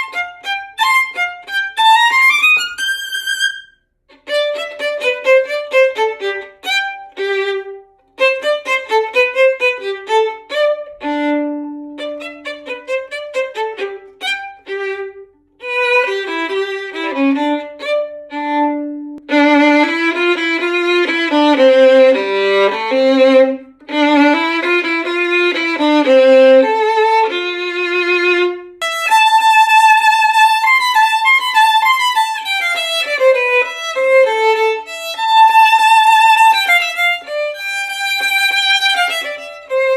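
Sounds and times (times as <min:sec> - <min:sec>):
solo violin playing: 0:00.0 - 0:39.9.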